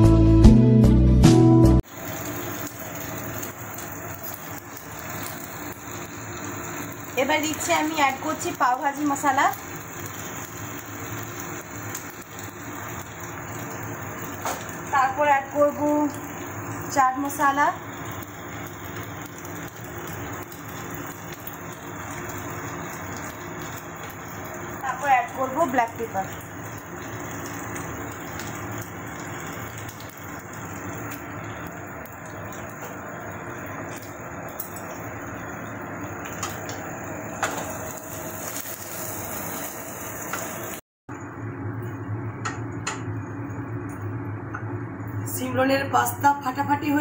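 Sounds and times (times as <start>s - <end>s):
pan hissing on stove: 1.8s - 40.8s.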